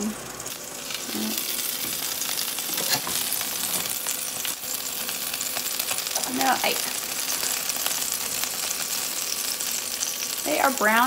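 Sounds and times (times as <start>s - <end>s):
chicken wings sizzling: 0.0s - 11.0s.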